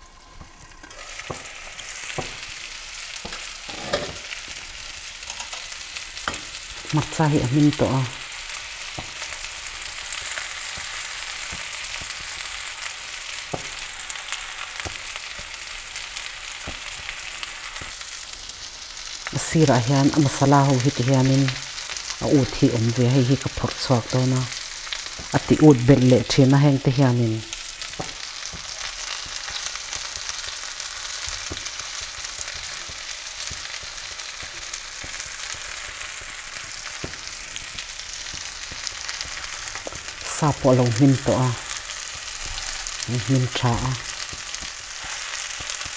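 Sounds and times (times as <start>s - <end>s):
chicken sizzling in a frying pan: 0.0s - 45.9s.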